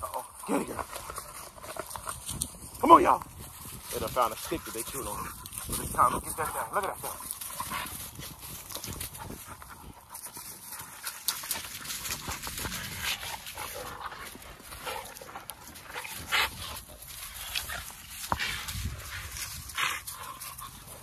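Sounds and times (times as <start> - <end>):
dogs panting: 0.0 - 21.0
dogs scuffling: 0.0 - 21.0
young dogs playing: 0.0 - 21.0.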